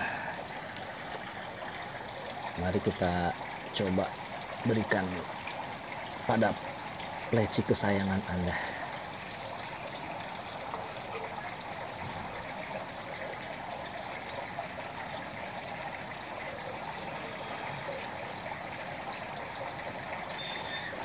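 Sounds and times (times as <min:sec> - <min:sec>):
water feature splashing into pond: 0:00.0 - 0:21.0.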